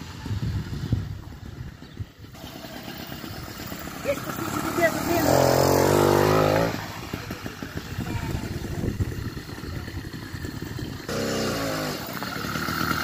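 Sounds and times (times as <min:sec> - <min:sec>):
two-stroke engine puttering: 0:00.0 - 0:13.0.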